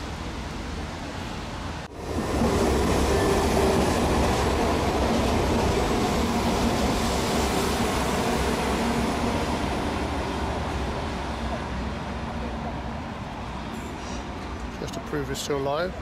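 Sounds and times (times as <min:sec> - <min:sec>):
diesel train rumbling past: 0:00.0 - 0:16.0.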